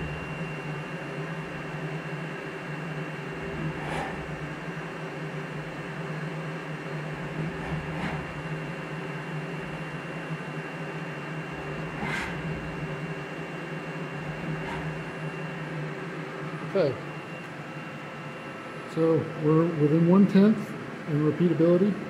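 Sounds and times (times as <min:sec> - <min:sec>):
machine hum with high whine: 0:00.0 - 0:22.0.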